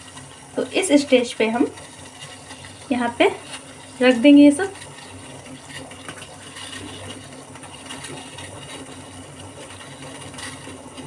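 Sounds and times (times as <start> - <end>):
water boiling in a saucepan: 0.0 - 11.0.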